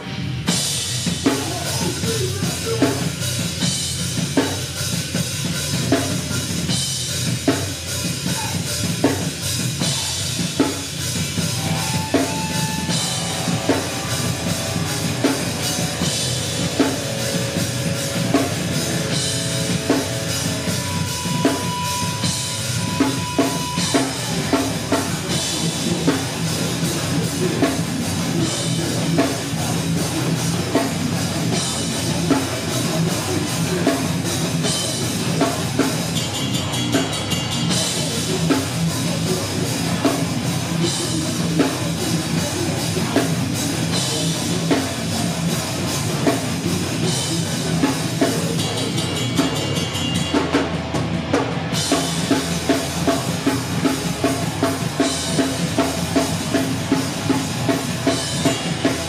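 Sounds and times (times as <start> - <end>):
band playing loud live music: 0.0 - 59.0
pounding drum kit: 0.0 - 59.0.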